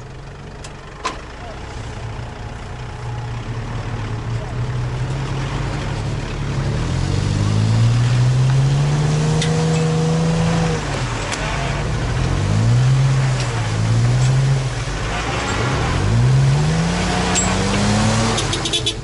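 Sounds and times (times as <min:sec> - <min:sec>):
vehicle engines revving hard: 0:00.0 - 0:19.0.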